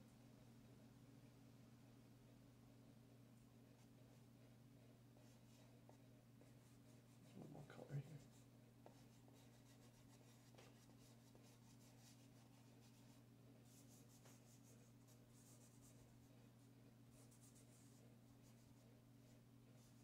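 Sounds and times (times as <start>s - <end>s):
steady low hum: 0.0s - 20.0s
fingertips rubbing pastel on paper: 3.7s - 20.0s.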